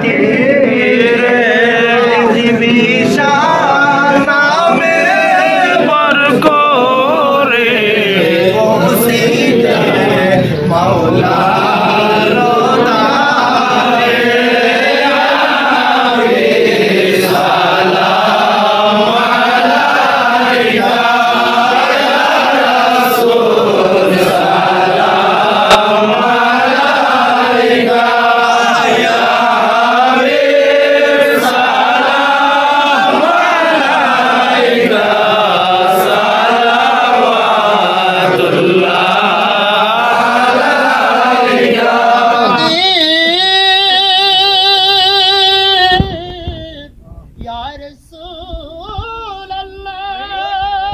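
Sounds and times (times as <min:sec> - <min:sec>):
men chanting in unison: 0:00.0 - 0:46.8.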